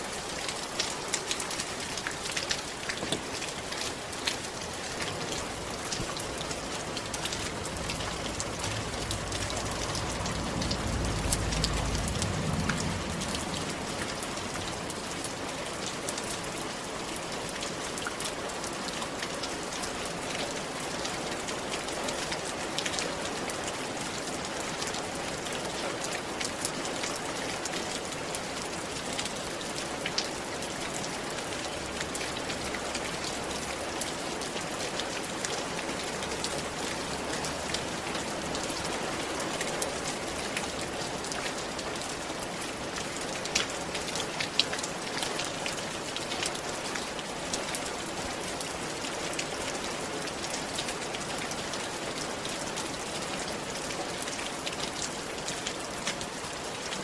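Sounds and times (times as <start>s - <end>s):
rain on a roof: 0.0s - 57.0s
raindrops ticking on roofing: 0.0s - 57.0s.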